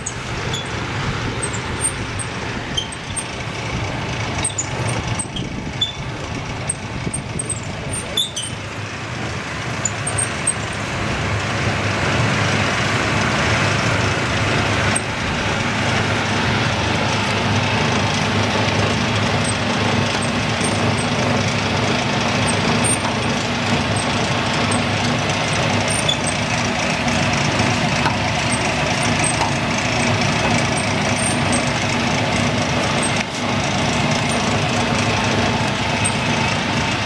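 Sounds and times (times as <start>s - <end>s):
dumpling machine running: 0.0s - 37.0s.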